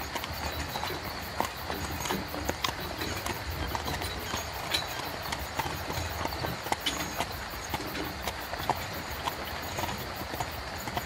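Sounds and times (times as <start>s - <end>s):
carriage rolling rumble: 0.0s - 11.0s
horse hooves clip-clopping: 0.0s - 11.0s.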